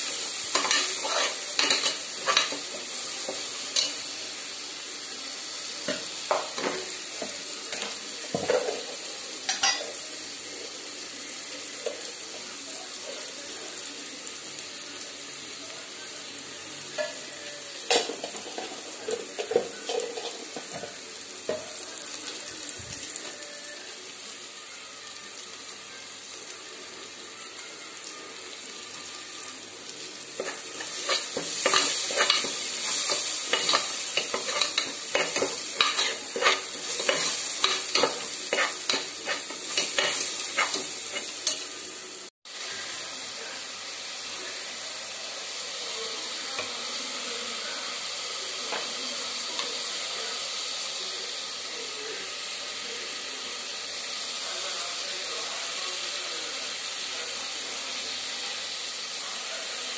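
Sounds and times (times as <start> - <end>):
gravy sizzling in a pot: 0.0 - 59.9.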